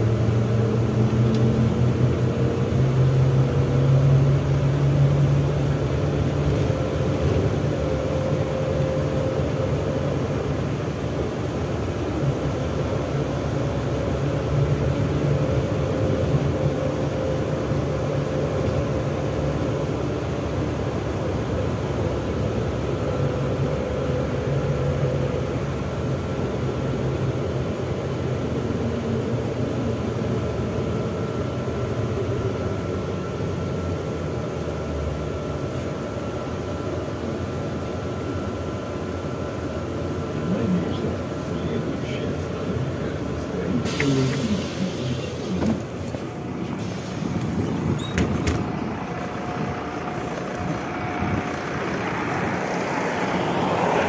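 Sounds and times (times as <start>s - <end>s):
bus engine drone: 0.0s - 54.0s
road and tyre noise: 0.0s - 54.0s.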